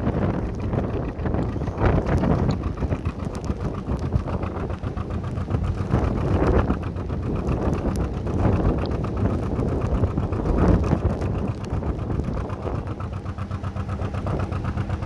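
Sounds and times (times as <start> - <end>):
boat engine chugging: 0.0 - 15.0
wind buffeting microphone: 0.0 - 15.0.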